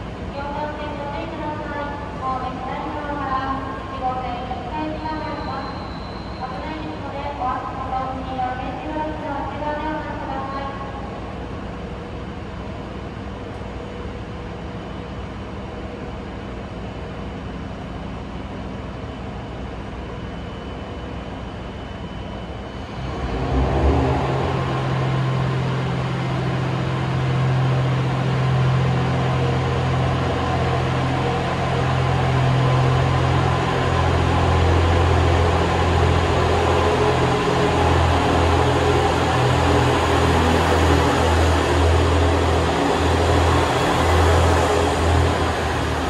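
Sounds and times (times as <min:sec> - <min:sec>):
low train drone: 0:00.0 - 0:46.0
train machinery hum: 0:00.0 - 0:46.0.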